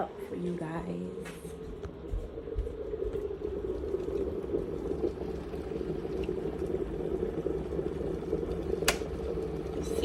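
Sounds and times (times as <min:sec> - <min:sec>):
kettle boiling water bubbling: 0:00.0 - 0:10.0.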